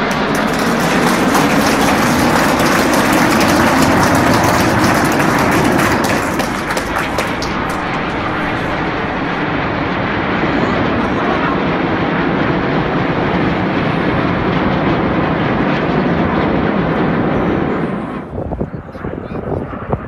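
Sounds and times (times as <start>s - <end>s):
jets flying overhead: 0.0s - 20.0s.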